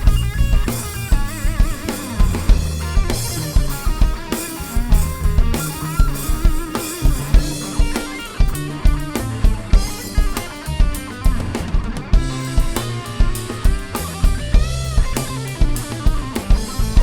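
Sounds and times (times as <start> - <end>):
drum kit beat: 0.0 - 17.0
live band music: 0.0 - 17.0.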